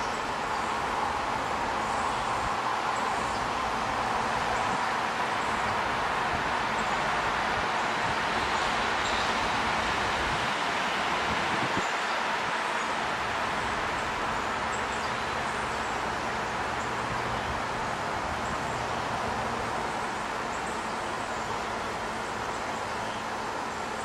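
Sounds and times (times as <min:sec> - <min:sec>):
steady outdoor rush: 0:00.0 - 0:24.0.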